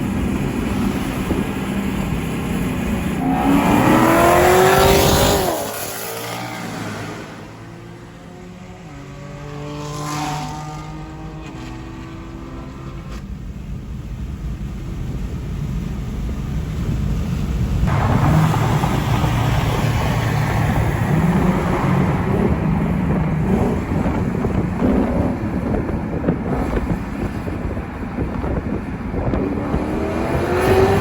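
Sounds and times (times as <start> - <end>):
wind noise: 0.0 - 9.0, 10.4 - 31.0
car engine accelerating: 0.2 - 13.2, 17.8 - 31.0.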